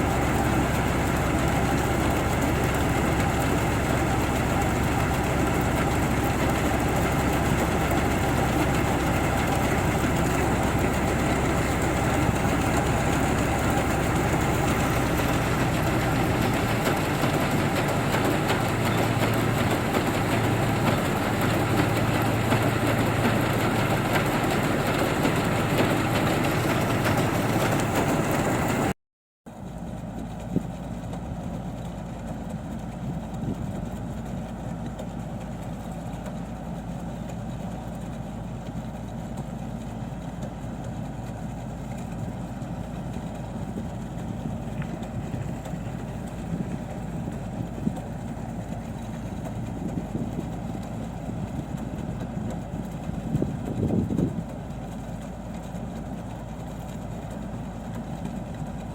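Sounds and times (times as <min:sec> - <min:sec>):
diesel engine running: 0:00.0 - 0:29.0, 0:29.6 - 0:58.9.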